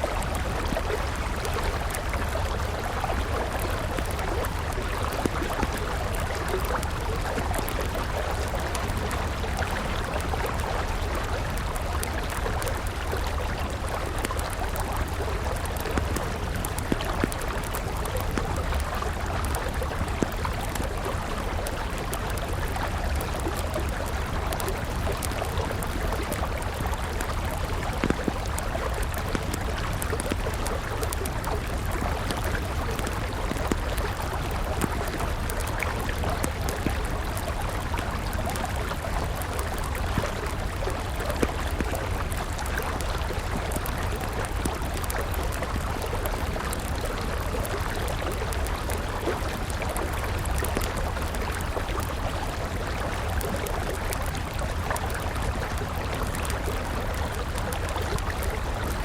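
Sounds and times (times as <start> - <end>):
campfire crackling and popping: 0.0 - 59.0
river water flowing: 0.0 - 59.0.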